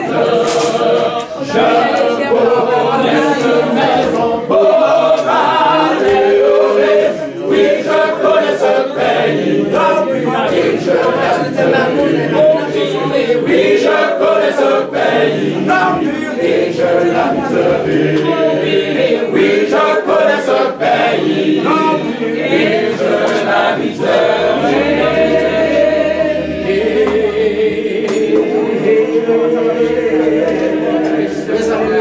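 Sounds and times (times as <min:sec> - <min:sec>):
group singing a hymn: 0:00.0 - 0:32.0.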